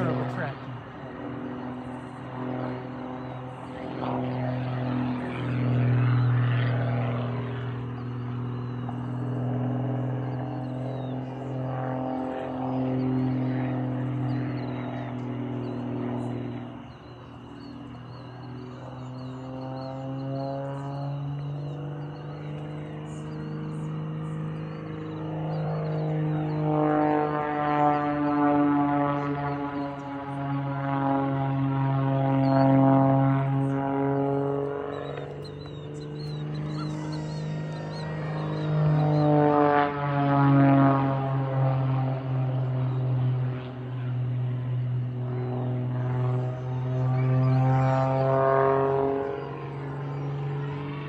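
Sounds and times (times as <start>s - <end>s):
propeller aircraft engine drone: 0.0s - 51.0s.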